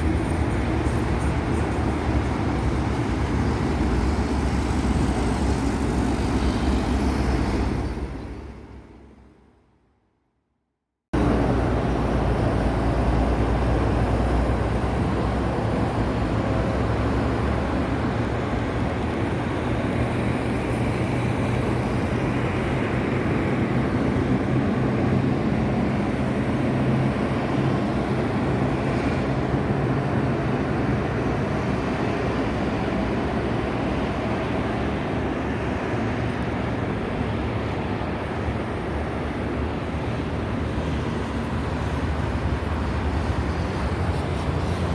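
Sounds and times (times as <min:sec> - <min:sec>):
highway traffic noise: 0:00.0 - 0:10.0, 0:11.1 - 0:44.9.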